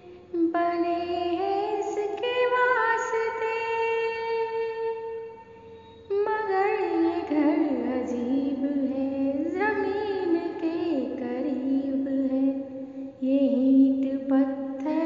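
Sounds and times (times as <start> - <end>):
woman singing: 0.0 - 5.2, 6.1 - 15.0.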